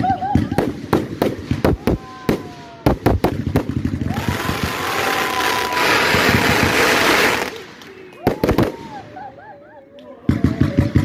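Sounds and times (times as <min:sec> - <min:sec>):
firework bangs: 0:00.1 - 0:09.2.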